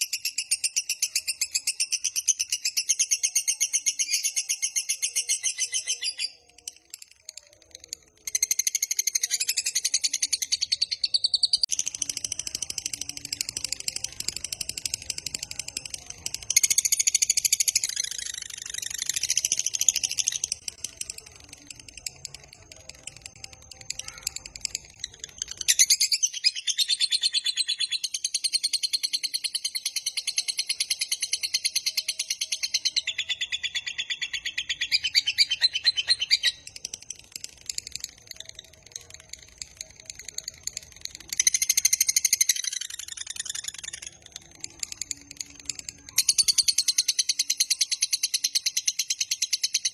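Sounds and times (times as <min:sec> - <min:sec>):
lovebird rapid chattering song: 0:00.0 - 0:49.9.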